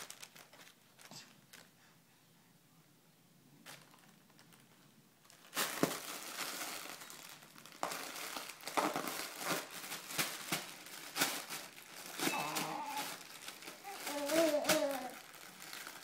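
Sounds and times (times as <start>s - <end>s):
bubble wrap crinkling: 0.0s - 1.7s, 3.6s - 16.0s.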